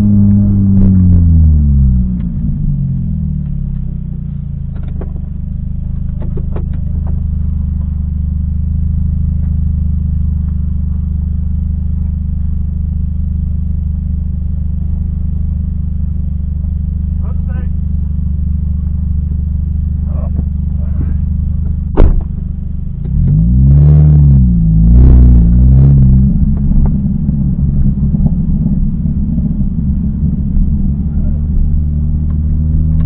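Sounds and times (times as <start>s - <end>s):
car engine slowing and idling: 0.0s - 33.0s.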